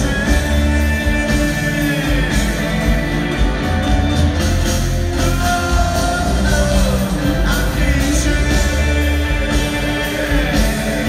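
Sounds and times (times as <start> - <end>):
rock band playing loudly: 0.0 - 11.0.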